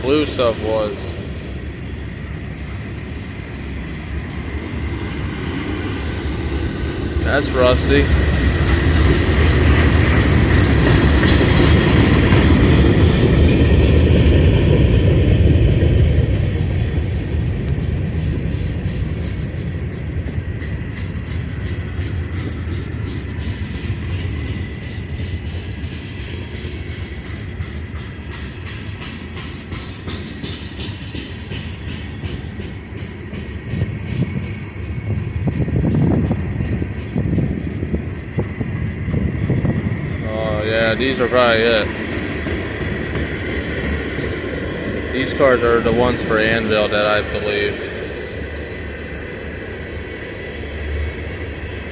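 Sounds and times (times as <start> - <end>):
freight train wheels rumbling: 0.0 - 51.9
wind buffeting microphone: 0.0 - 51.9.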